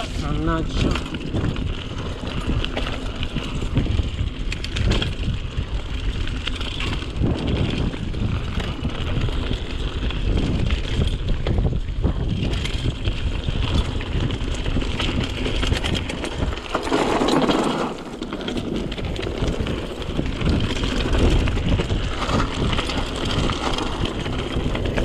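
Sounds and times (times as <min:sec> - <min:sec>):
bike rattles and clicks: 0:00.0 - 0:25.0
tyres rolling over loose rock: 0:00.0 - 0:25.0
wind rumble on microphone: 0:00.0 - 0:25.0.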